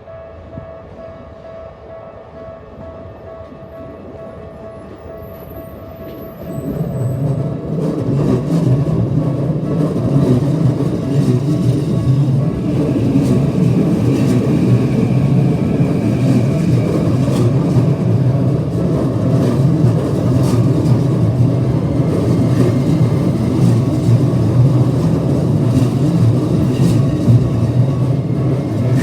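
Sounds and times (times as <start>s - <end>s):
train rolling past: 0.0s - 29.0s.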